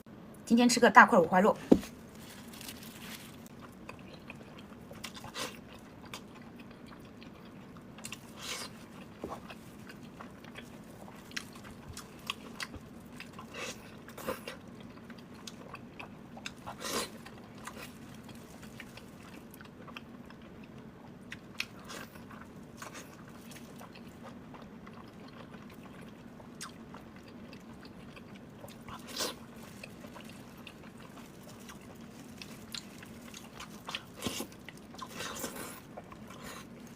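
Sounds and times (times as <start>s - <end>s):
faint steady hum: 0.0s - 36.9s
close chewing and biting: 1.8s - 36.9s.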